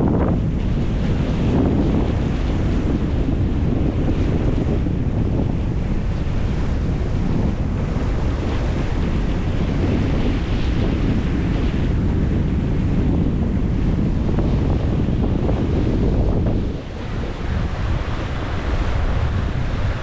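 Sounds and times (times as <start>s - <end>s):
water rushing along hull: 0.0s - 20.0s
wind buffeting microphone: 0.0s - 20.0s.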